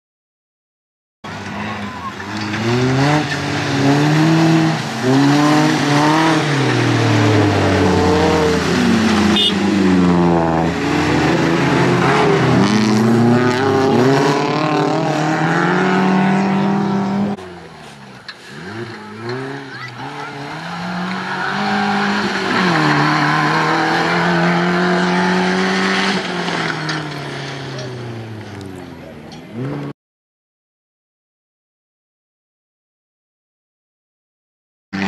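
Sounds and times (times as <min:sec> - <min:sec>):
off-road engines revving hard: 0:01.3 - 0:29.9.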